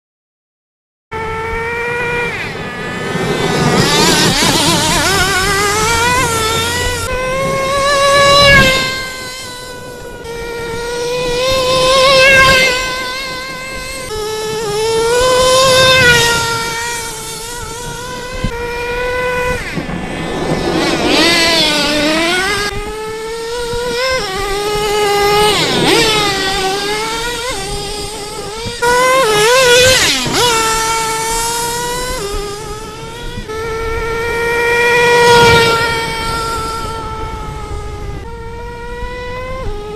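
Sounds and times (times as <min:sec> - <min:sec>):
small engine revving high: 0:01.1 - 0:39.9.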